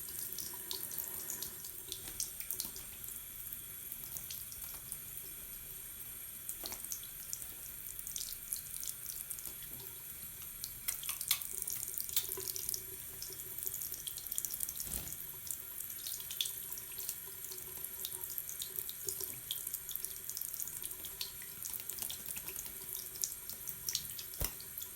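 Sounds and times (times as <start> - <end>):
small splashes and drips: 0.0 - 5.7, 6.4 - 24.9
water running: 0.0 - 24.9.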